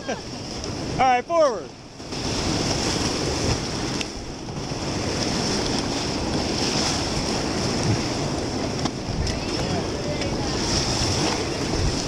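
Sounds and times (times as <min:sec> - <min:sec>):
whitewater rushing: 0:00.0 - 0:12.0
wind noise on microphone: 0:02.0 - 0:12.0.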